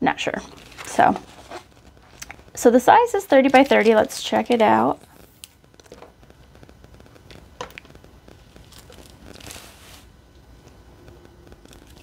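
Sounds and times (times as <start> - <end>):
canvas crinkling: 0.4 - 12.0.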